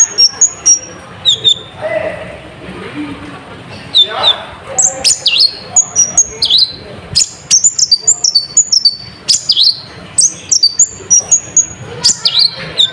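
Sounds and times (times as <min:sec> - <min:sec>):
sunbird singing high chirps: 0:00.0 - 0:01.8, 0:03.9 - 0:12.9.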